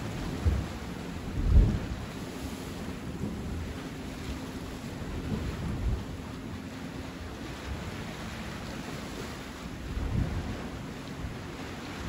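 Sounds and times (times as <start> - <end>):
waves washing on shore: 0.0 - 12.0
wind buffeting microphone: 0.0 - 12.0.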